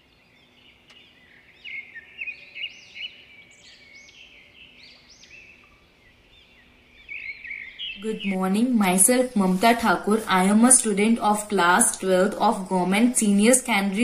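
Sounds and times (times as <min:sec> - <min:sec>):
faint steady hum: 0:00.0 - 0:14.0
small birds chirping: 0:00.0 - 0:14.0.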